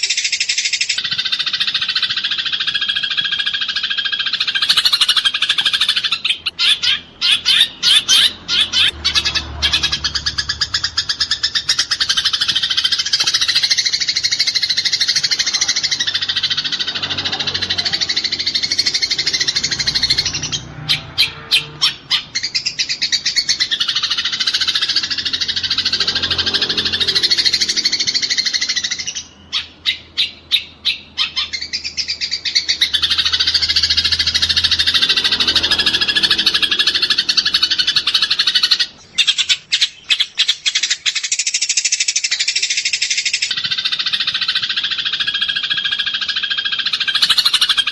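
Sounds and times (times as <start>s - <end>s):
sparrows chirping harshly: 0.0s - 47.9s.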